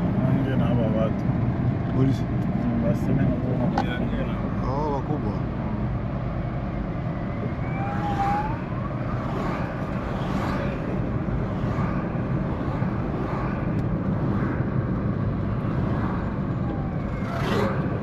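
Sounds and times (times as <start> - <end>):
vehicle road and engine noise: 0.0 - 18.0.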